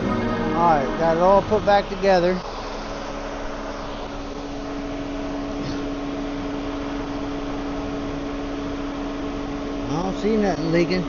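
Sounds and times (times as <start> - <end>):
constant engine whine: 0.0 - 11.0.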